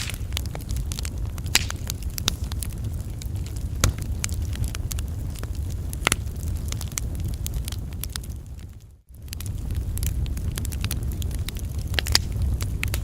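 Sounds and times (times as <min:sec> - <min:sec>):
campfire flame rumble: 0:00.0 - 0:13.0
wood crackling and popping: 0:00.0 - 0:13.0.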